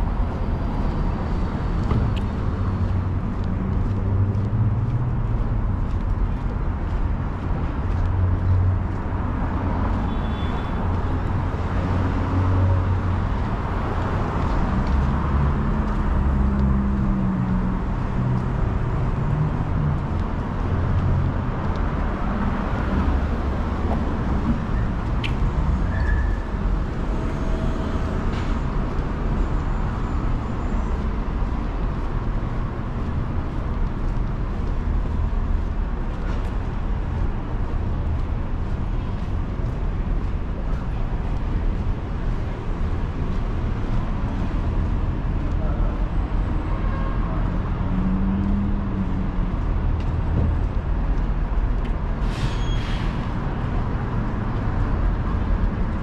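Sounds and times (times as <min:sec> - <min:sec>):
passing cars: 0:00.0 - 0:56.0.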